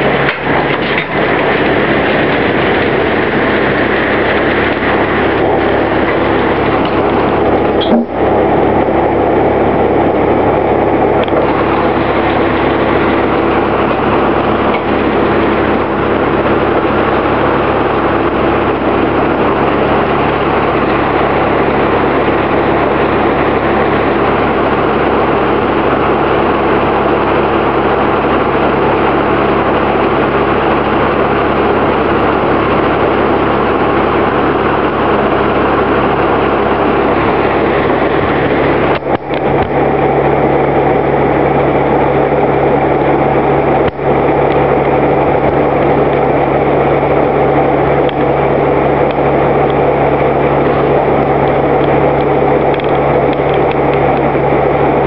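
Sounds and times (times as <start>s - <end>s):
sawmill machinery droning: 0.0s - 55.0s.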